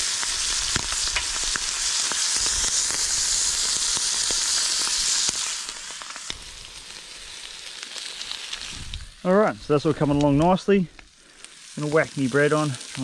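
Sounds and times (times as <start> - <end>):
meat sizzling on a grill: 0.0 - 13.0
pops and crackles: 0.0 - 13.0.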